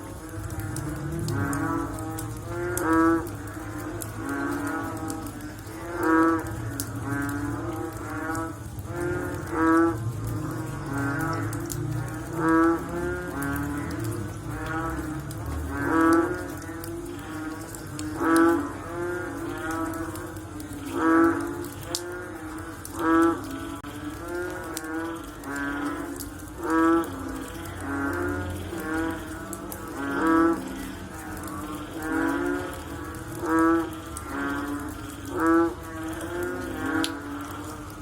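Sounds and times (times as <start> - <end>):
chorus of frogs calling: 0.0 - 38.0.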